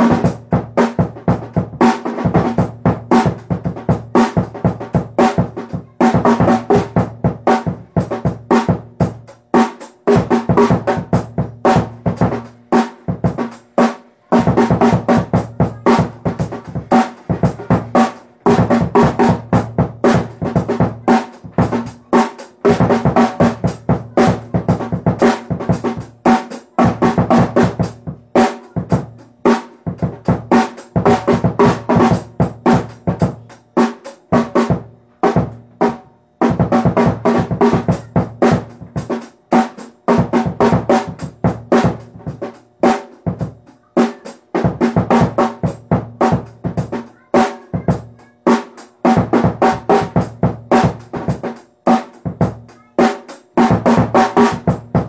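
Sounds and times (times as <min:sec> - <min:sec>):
snare drum strokes: 0:00.0 - 0:55.0.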